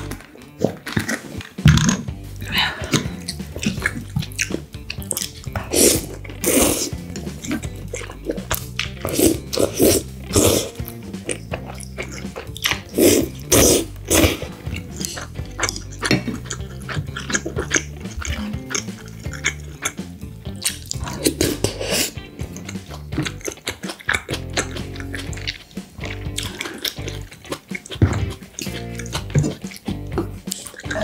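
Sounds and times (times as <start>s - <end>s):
soft background music: 0.0s - 31.0s
wet slurping and chewing: 0.0s - 31.0s.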